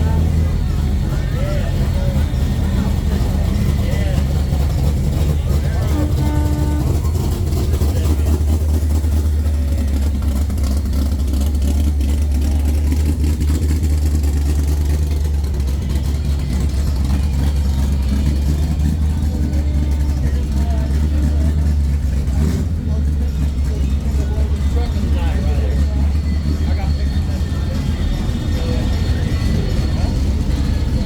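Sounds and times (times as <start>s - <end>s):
car engine idling hum: 0.0s - 31.0s.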